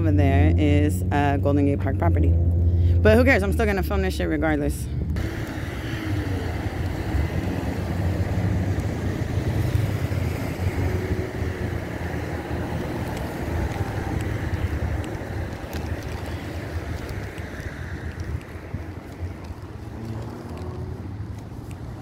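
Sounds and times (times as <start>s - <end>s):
street traffic: 0.0s - 22.0s
wind rumble on microphone: 0.0s - 22.0s.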